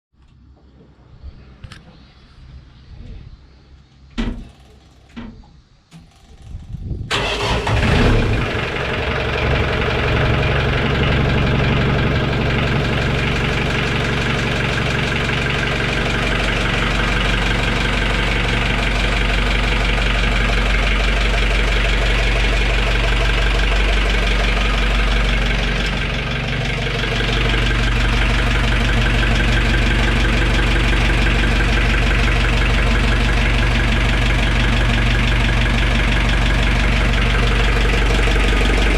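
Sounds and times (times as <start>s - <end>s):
boat engine starting and idling: 7.1s - 38.9s.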